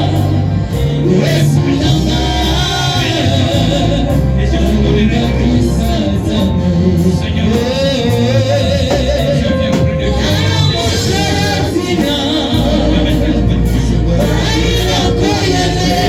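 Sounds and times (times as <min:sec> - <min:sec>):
band with steady bass line: 0:00.0 - 0:16.0
gospel singing voices: 0:00.0 - 0:16.0.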